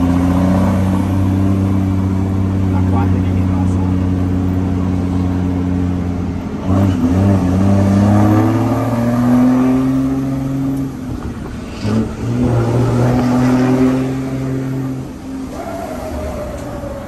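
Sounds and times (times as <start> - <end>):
truck diesel engine accelerating: 0.0 - 17.0.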